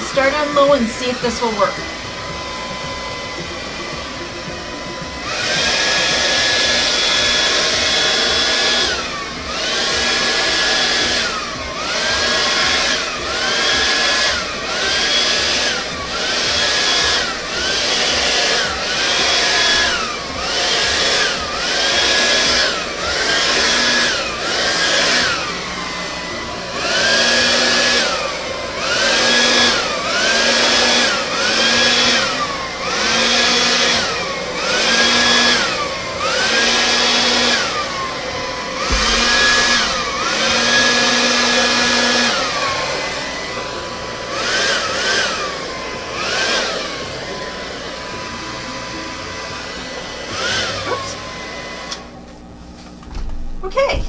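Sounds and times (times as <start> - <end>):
hair dryer motor whine: 0.0 - 54.0.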